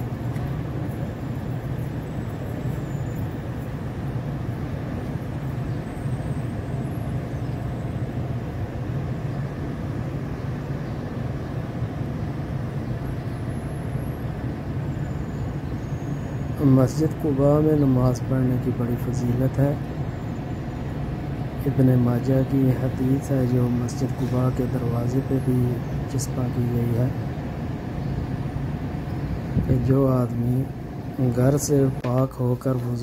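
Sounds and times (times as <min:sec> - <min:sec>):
air conditioning hum: 0:00.0 - 0:33.0
wall-mounted fans humming: 0:00.0 - 0:33.0.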